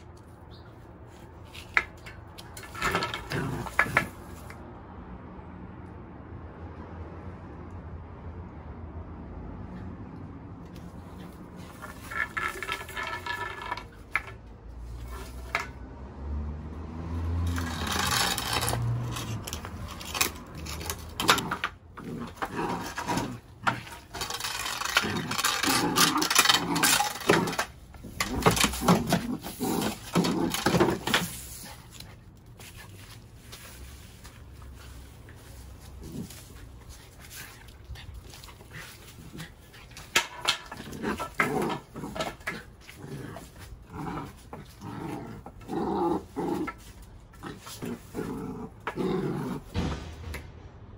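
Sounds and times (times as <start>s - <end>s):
broom bristles scraping concrete: 1.0s - 4.6s, 10.7s - 15.9s, 17.0s - 49.8s.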